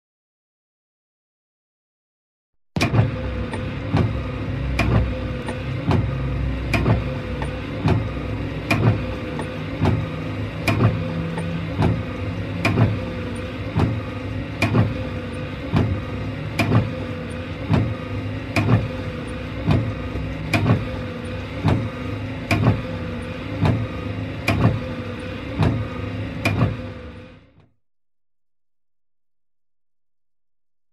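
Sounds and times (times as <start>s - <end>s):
wiper motor hum: 2.8s - 27.8s.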